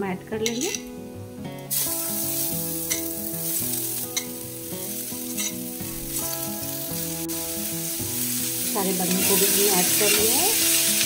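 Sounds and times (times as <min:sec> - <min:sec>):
cabbage sizzling in hot oil: 0:01.6 - 0:11.0.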